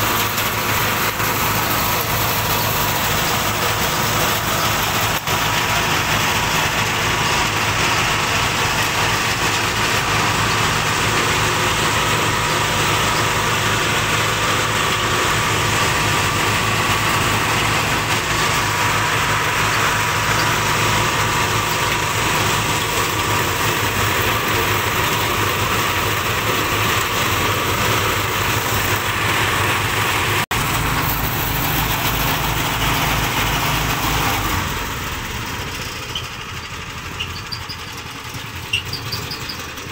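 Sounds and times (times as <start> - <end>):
threshing machine engine running: 0.0 - 39.9.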